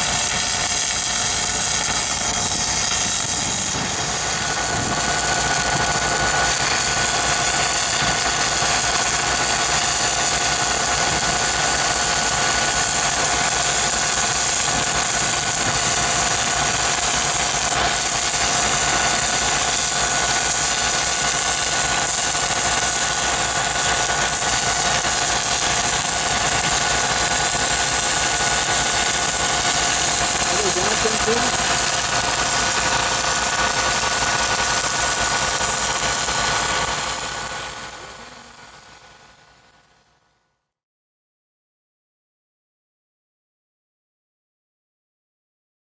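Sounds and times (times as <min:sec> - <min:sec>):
welding machine engine drone: 0:00.0 - 0:40.2.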